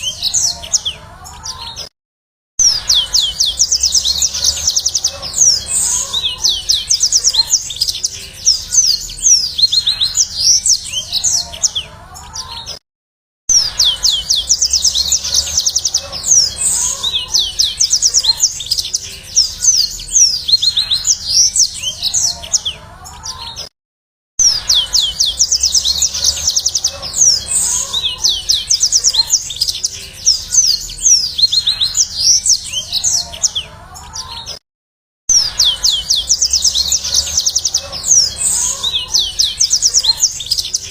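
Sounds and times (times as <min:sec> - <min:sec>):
canary singing trills: 0:00.0 - 0:01.9, 0:02.6 - 0:12.8, 0:13.5 - 0:23.7, 0:24.4 - 0:34.6, 0:35.3 - 0:40.9.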